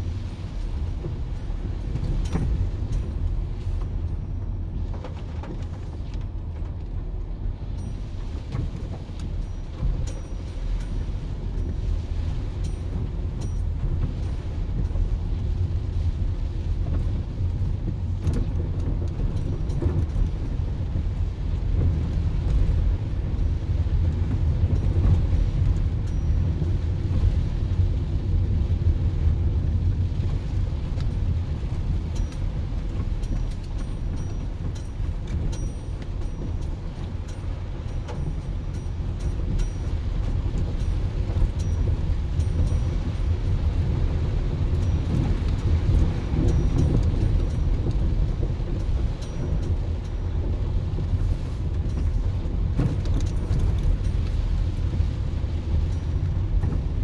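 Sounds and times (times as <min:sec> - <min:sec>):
car engine rumble: 0:00.0 - 0:57.0
tyres on wet road: 0:00.0 - 0:57.0.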